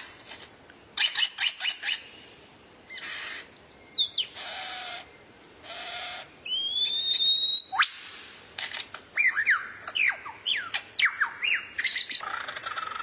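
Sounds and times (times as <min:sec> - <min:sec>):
songbird calls: 0:00.0 - 0:13.0.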